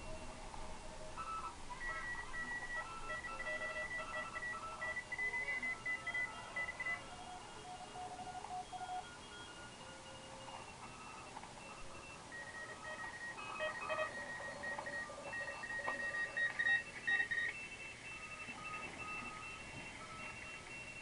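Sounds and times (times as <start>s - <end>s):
faint radio band hiss: 0.0s - 21.0s
morse code beeps: 1.2s - 21.0s.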